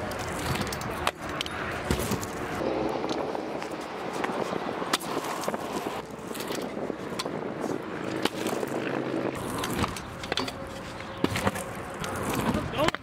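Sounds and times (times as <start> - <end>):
scooter deck clacking on concrete: 0.0 - 7.4, 8.0 - 13.0
kick scooter rolling on pavement: 0.0 - 13.0.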